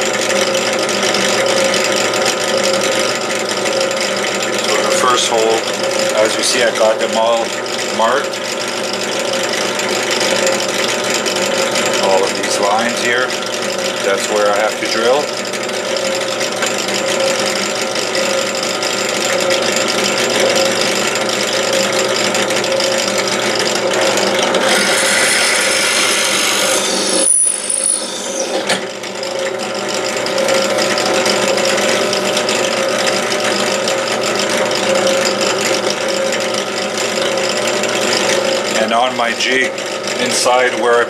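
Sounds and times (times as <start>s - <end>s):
drill bit boring into wood: 0.0s - 41.0s
drill press motor hum: 0.0s - 41.0s.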